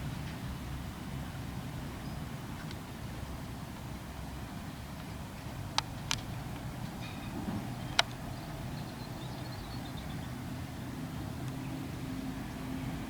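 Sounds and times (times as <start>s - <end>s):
distant farm machinery engines: 0.0s - 13.0s.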